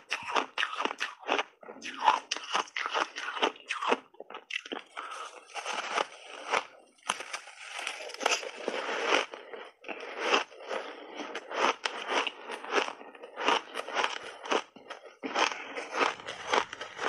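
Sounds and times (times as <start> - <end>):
crunching and chewing ice: 0.0 - 17.0.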